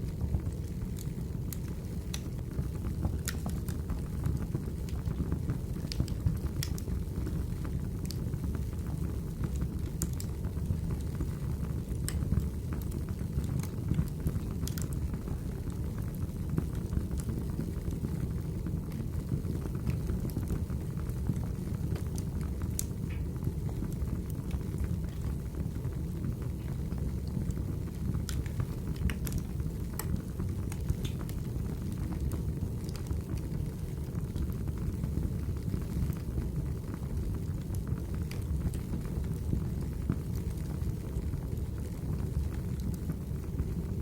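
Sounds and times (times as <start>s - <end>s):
wood fire burning: 0.0s - 44.0s.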